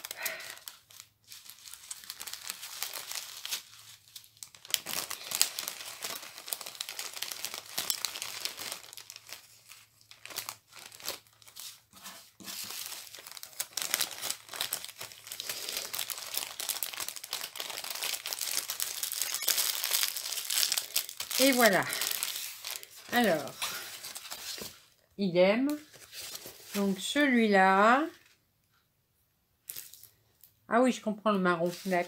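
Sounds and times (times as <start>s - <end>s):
plastic packaging crinkling: 0.0s - 25.0s, 25.7s - 27.2s, 29.7s - 30.6s, 31.6s - 32.0s.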